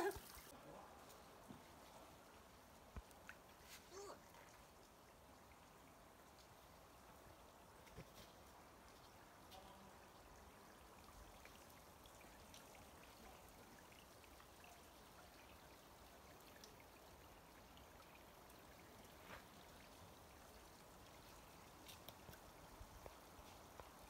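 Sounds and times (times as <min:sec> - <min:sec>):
water trickling and dripping: 0:00.0 - 0:24.0.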